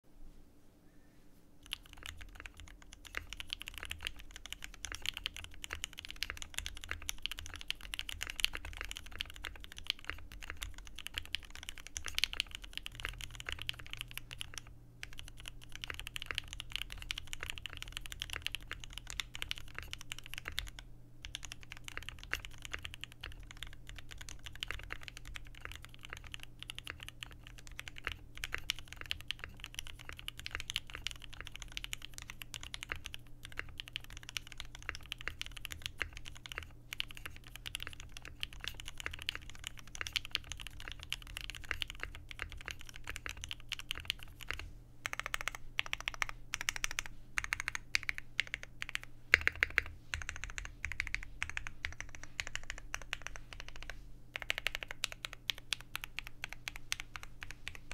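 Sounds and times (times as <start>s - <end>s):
mechanical keyboard typing: 1.6s - 57.9s.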